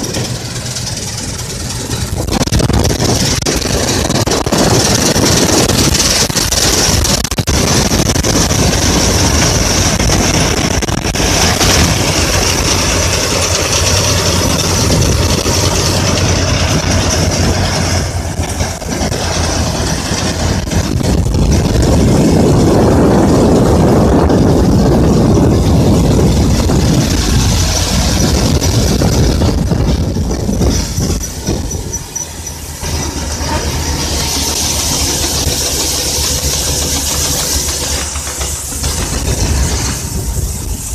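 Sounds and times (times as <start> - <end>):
combine harvester running: 0.0 - 40.9
high mechanical whine: 0.0 - 40.9.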